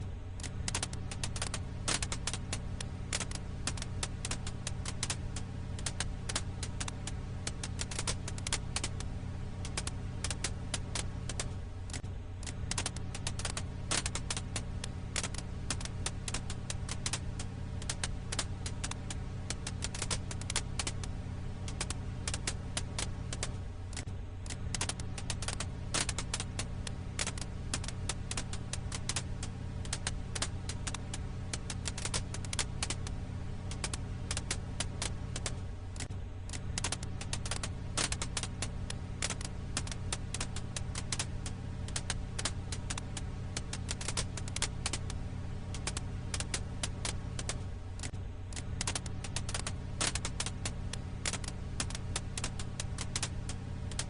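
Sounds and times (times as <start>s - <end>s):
firewood crackling and popping: 0.0s - 54.0s
low hum: 0.0s - 54.0s.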